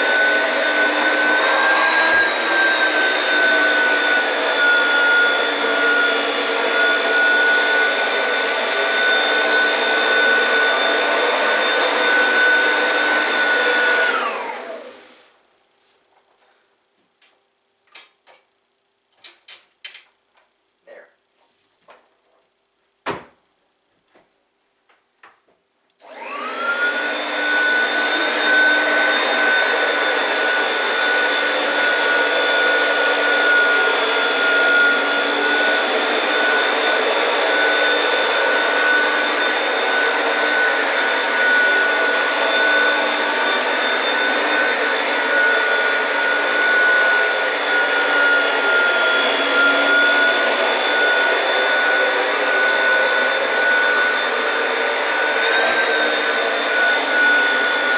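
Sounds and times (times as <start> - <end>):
vacuum cleaner motor running: 0.0 - 15.4, 26.0 - 57.9.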